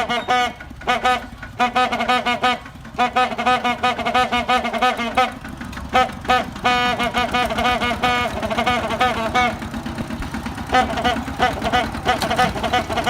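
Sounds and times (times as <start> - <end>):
tractor engine running: 0.0 - 13.0
tractor horn tooting: 0.0 - 13.0.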